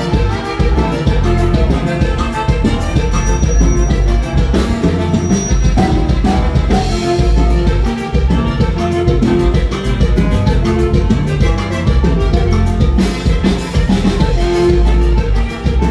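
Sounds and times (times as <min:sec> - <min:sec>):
band playing instrumental: 0:00.0 - 0:15.9.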